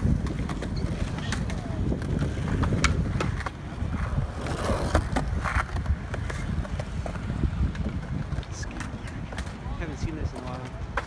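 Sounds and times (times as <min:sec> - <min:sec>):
skateboards clacking on ground: 0:00.0 - 0:11.0
skateboards rolling on concrete: 0:00.0 - 0:11.0.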